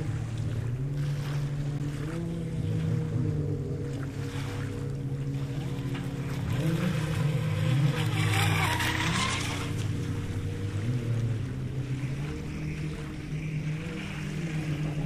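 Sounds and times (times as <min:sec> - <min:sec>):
boat hull and spray hissing: 0:00.0 - 0:15.0
steady low hum: 0:00.0 - 0:15.0.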